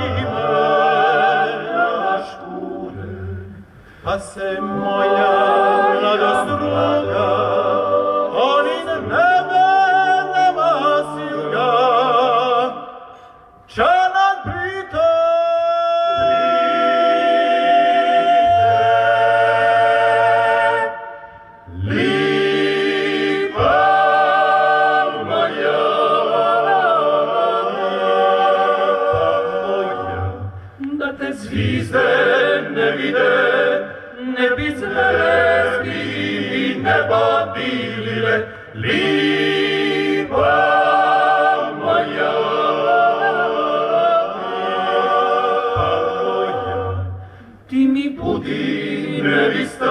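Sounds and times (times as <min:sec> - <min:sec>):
male choir singing a cappella: 0:00.0 - 0:13.1, 0:13.7 - 0:49.9.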